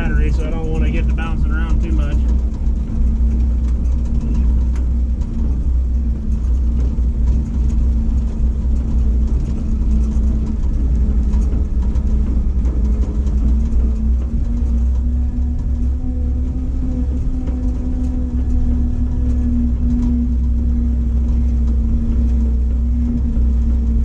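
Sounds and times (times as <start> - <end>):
light rattles: 0.0 - 24.0
truck engine rumbling: 0.0 - 24.0.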